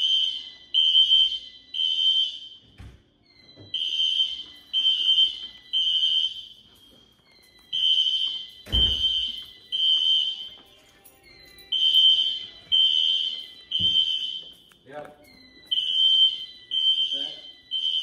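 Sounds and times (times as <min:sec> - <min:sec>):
fire alarm horns pulsing: 0:00.0 - 0:18.0.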